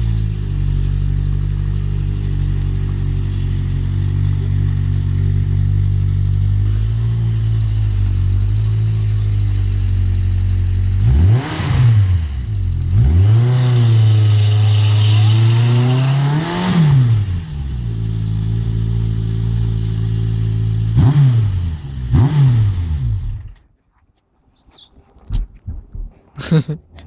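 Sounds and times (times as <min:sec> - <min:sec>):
engine idling and revving: 0:00.0 - 0:23.7.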